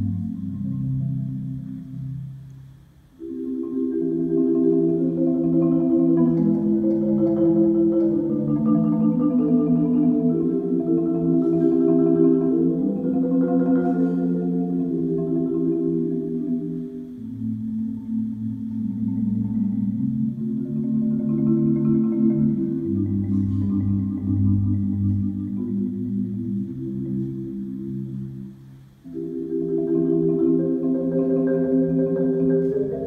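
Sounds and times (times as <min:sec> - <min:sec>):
marimba rolled chords: 0:00.0 - 0:33.0.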